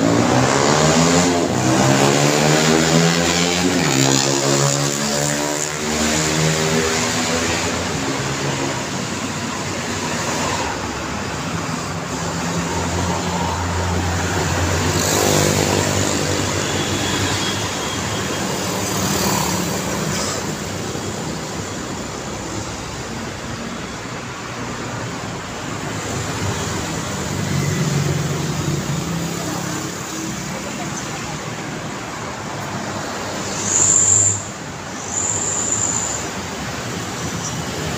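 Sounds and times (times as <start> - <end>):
cars and motorbikes passing: 0.0 - 37.9.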